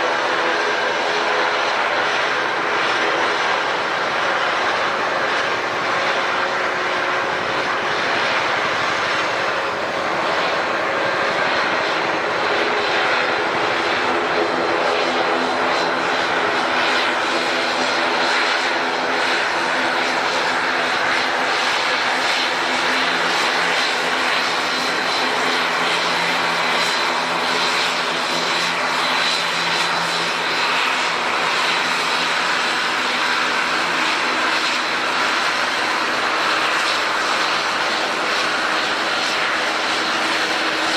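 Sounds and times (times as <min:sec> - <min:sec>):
airliner engines humming: 0:00.0 - 0:40.9.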